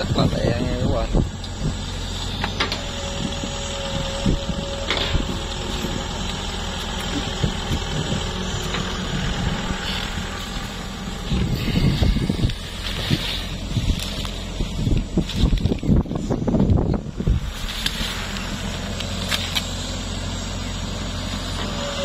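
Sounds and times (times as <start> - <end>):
diesel engine running: 0.0 - 22.0
steady whine: 0.0 - 22.0.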